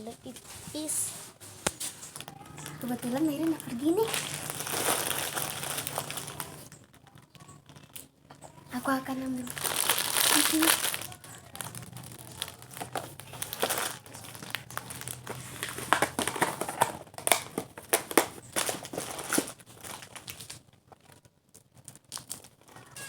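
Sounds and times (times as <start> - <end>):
packaging crinkling: 0.1 - 8.1, 8.7 - 23.0.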